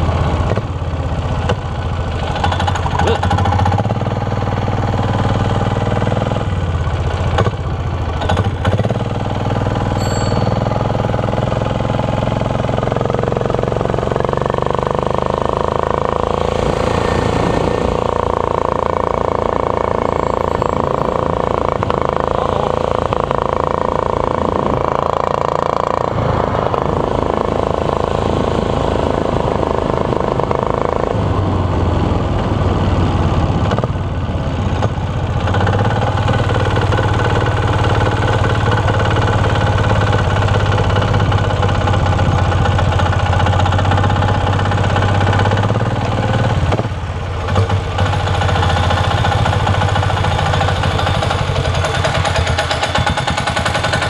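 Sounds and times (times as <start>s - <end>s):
diesel minibike engine running: 0.0s - 54.0s.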